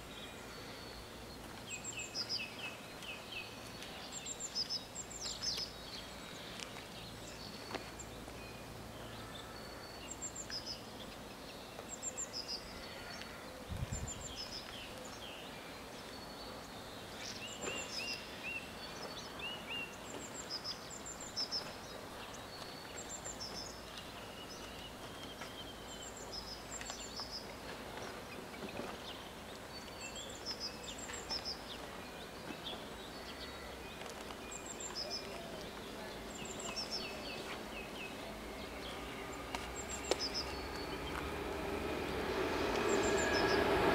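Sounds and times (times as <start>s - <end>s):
faint outdoor background noise: 0.0s - 43.9s
songbirds chirping and trilling: 0.0s - 43.9s.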